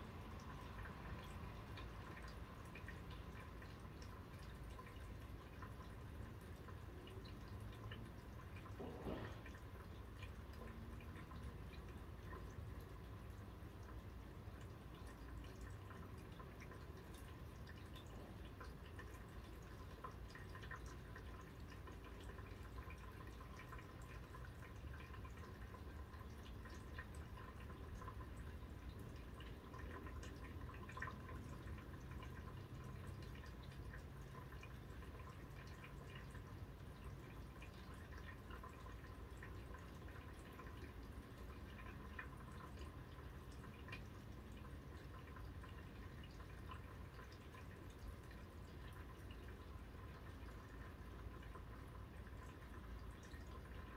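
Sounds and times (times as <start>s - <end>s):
rain drips and taps: 0.0s - 53.9s
soft rain hiss: 0.0s - 53.9s.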